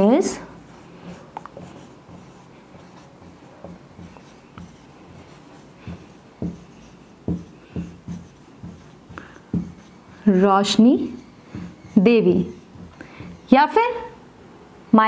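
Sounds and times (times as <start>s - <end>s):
marker pen writing on whiteboard: 0.0s - 14.1s.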